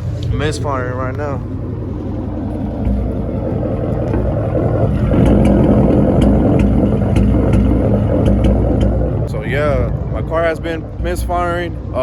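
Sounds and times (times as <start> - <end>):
engine idling rough: 0.0 - 12.0.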